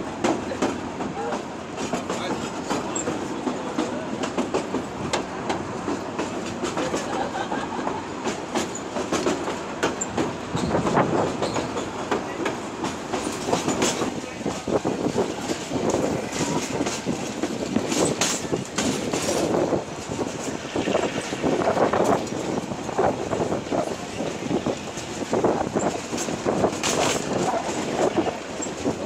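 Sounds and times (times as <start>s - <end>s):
rail joints clicking: 0.0s - 29.0s
train wheels rumbling on rail: 0.0s - 29.0s.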